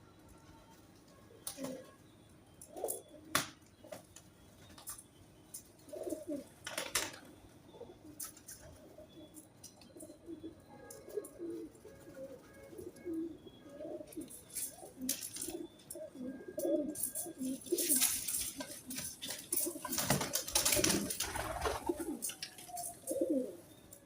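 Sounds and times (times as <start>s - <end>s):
birds cooing: 1.2s - 4.1s, 5.5s - 24.0s.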